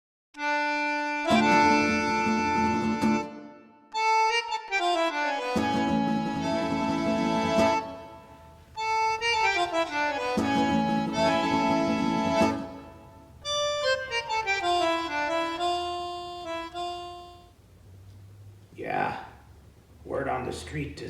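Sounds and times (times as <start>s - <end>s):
lively accordion tune: 0.4s - 17.6s.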